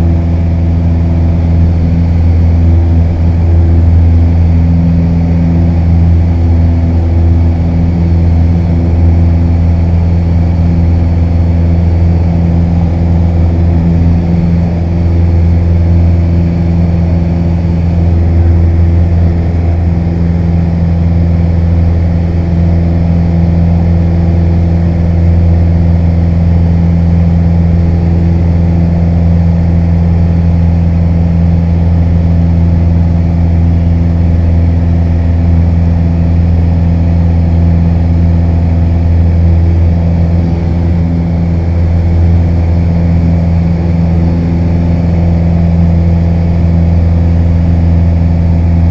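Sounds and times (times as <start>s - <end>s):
airplane engine and propeller drone: 0.0s - 48.9s.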